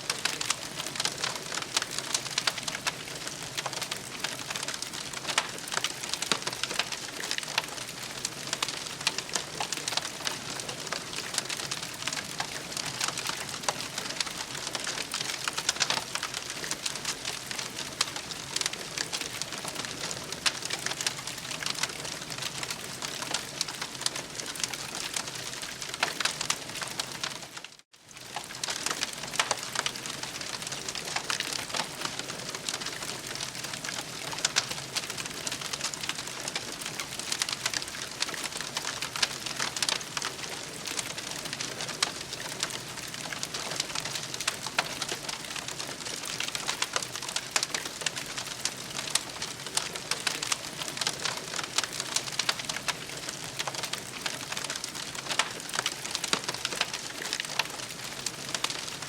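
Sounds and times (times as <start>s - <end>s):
campfire crackling: 0.1s - 59.0s.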